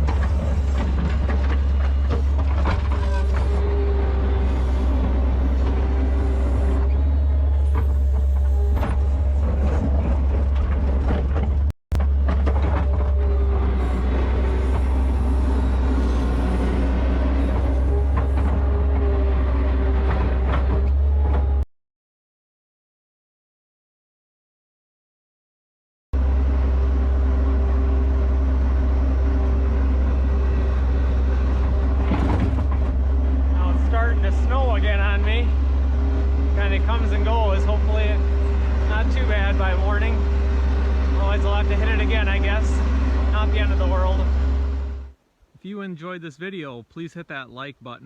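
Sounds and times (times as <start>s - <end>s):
skid steer engine under load: 0.0s - 21.6s, 26.2s - 45.2s.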